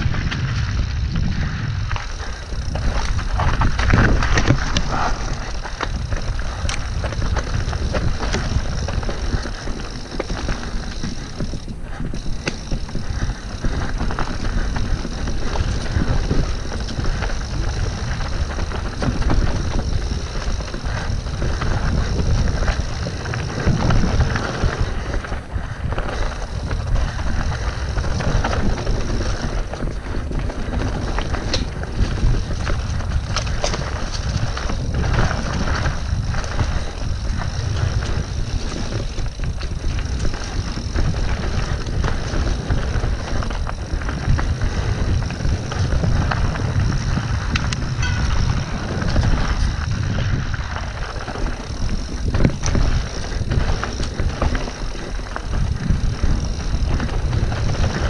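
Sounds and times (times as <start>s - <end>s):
bike clattering over bumps: 0.0s - 58.0s
tyres rolling over dirt: 0.0s - 58.0s
wind rush on microphone: 0.0s - 58.0s.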